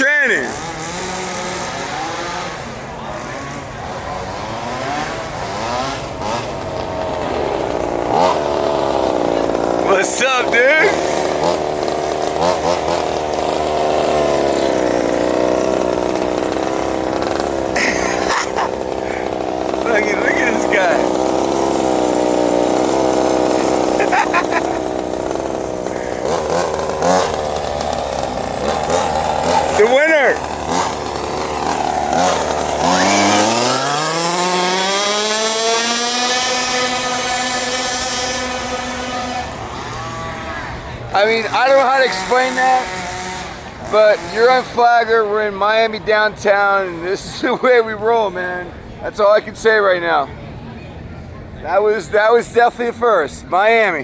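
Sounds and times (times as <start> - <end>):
small two-stroke engines buzzing: 0.0 - 54.0.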